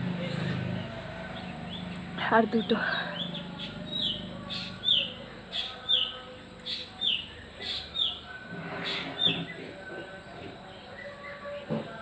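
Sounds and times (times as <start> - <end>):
bird chirping: 0.3 - 11.8.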